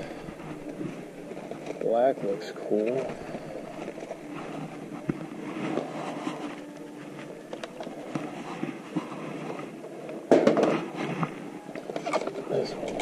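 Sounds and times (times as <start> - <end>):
faint store room noise: 0.0 - 13.0
plastic packages rustling: 0.0 - 13.0.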